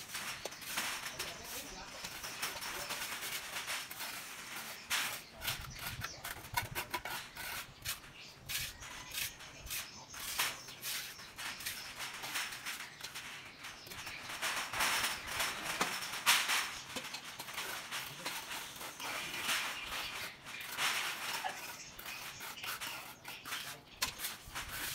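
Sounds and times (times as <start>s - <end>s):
hand scrubbing wet concrete: 0.0s - 12.7s, 17.4s - 24.9s.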